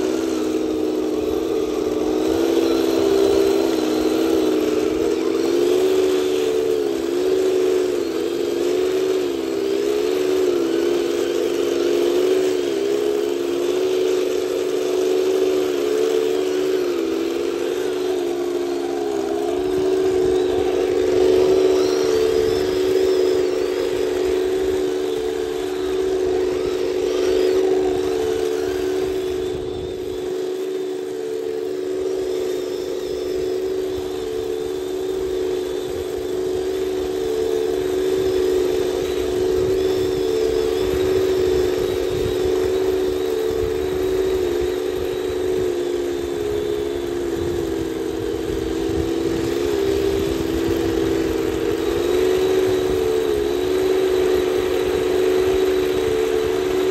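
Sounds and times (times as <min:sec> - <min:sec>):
toy tank motor drone: 0:00.0 - 0:56.9.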